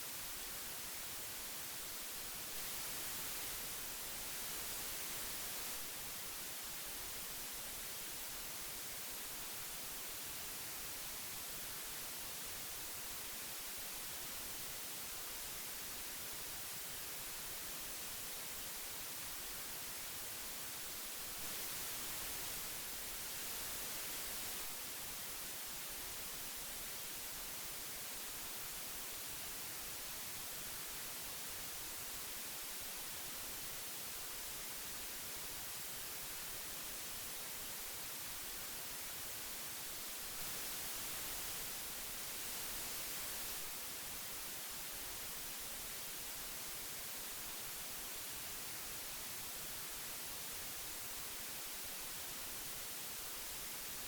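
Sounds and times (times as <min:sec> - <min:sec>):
tape hiss: 0:00.0 - 0:54.0.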